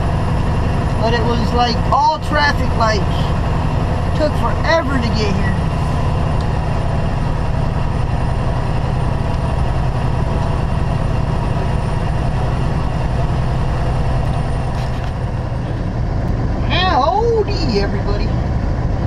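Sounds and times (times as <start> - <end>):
truck diesel engine drone: 0.0 - 19.0.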